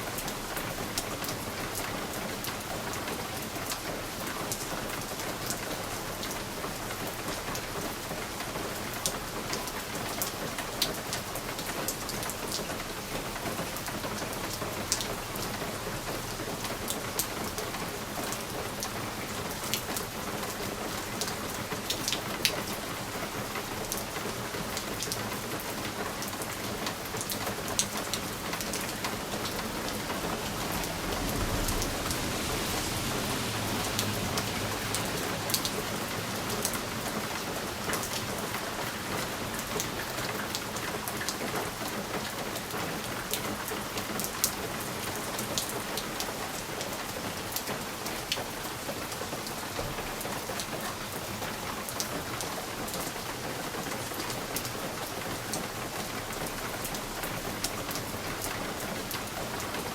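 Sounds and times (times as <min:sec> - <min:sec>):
rain on a window pane: 0:00.0 - 0:59.9.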